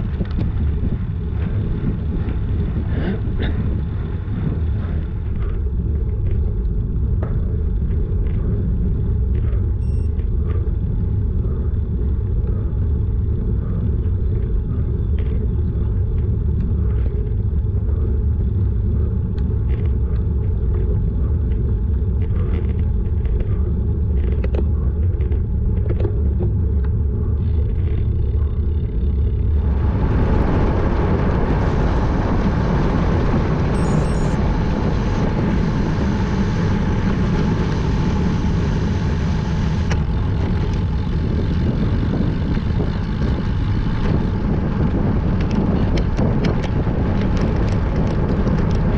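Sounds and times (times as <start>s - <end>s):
wind rumble on camera: 0.0s - 48.9s.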